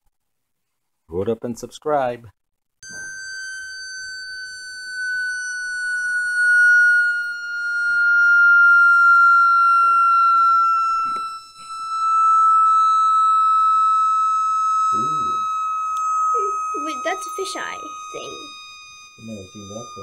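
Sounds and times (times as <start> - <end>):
high-pitched sweeping test tone: 2.8 - 20.0.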